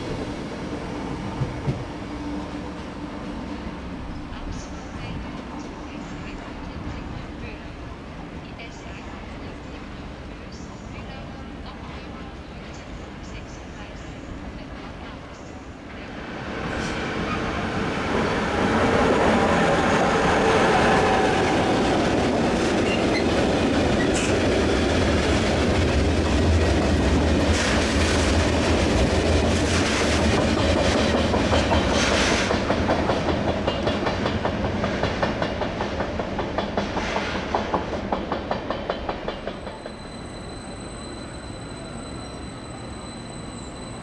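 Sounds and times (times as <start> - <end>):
freight train passing: 0.0 - 44.0.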